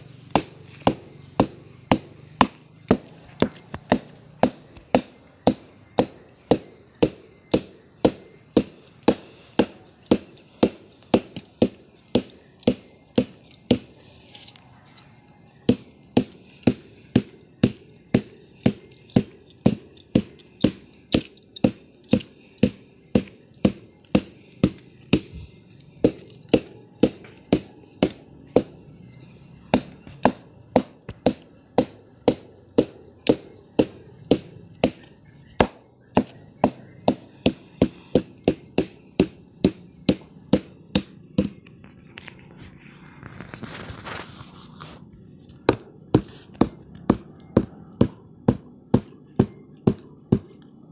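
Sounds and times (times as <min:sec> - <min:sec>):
rhythmic knocking on palm stalk: 0:00.0 - 0:14.5, 0:15.5 - 0:50.9
high insect drone: 0:00.0 - 0:50.9.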